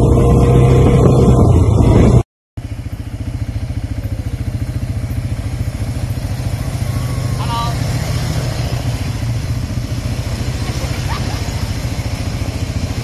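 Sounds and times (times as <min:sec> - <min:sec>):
loud engine while riding: 0:00.0 - 0:13.0
quad bike engines chugging: 0:00.0 - 0:13.0.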